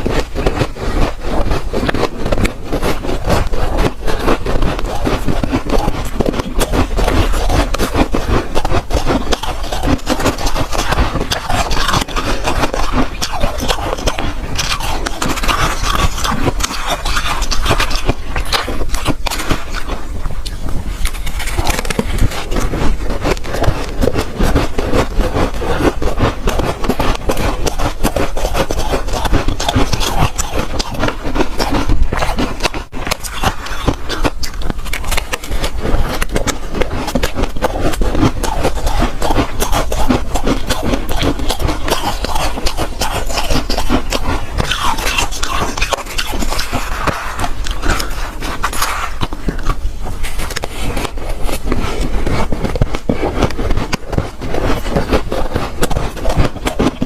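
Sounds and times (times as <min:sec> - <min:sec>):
chewing and crunching ice: 0:00.0 - 0:57.0.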